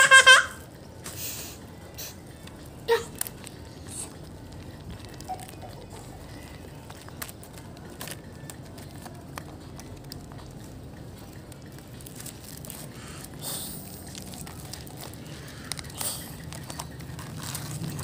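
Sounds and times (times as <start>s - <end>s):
plastic strip rustling and crinkling: 2.4s - 18.0s.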